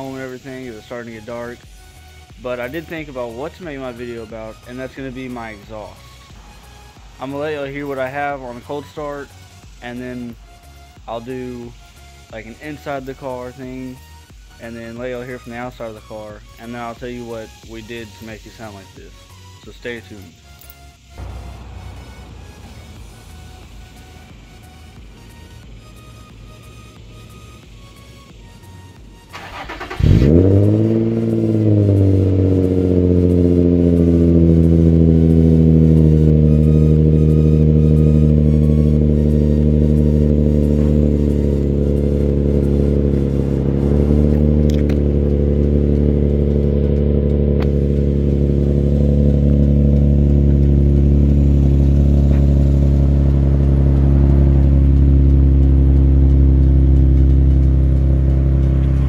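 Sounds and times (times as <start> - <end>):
car engine starting and idling: 0.0 - 59.0.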